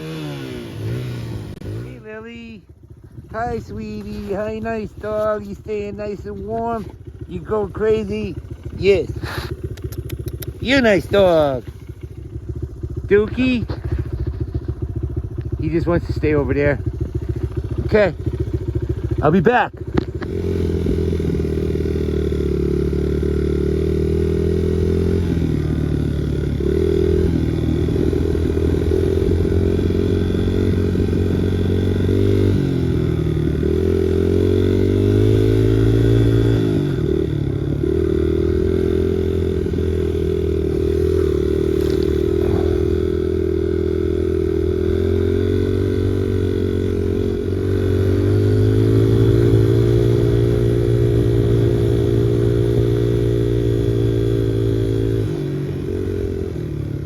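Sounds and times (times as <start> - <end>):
small motorcycle engine running: 0.0 - 57.0.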